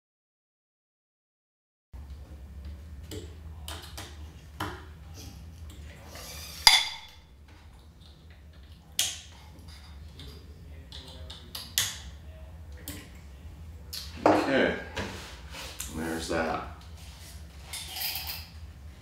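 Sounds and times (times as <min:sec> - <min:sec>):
steady low hum: 0:02.0 - 0:19.0.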